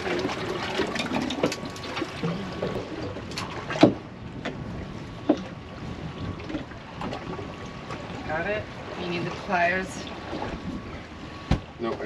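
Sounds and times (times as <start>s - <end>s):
water around a boat: 0.0s - 12.0s
wind noise: 1.4s - 11.7s.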